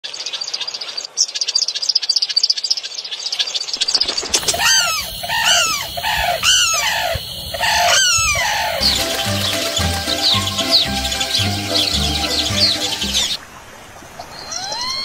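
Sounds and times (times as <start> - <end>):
birds chirping and calling: 0.4 - 13.4.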